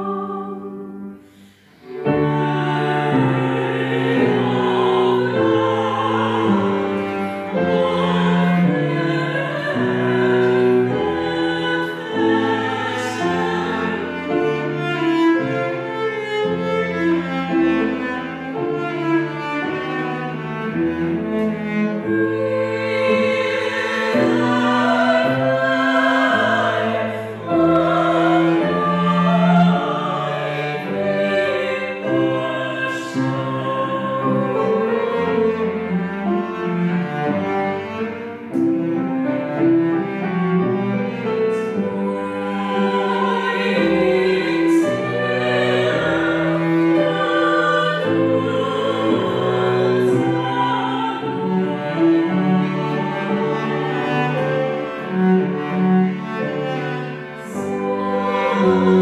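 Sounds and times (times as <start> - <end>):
bowed strings playing slow piece: 0.0 - 59.0.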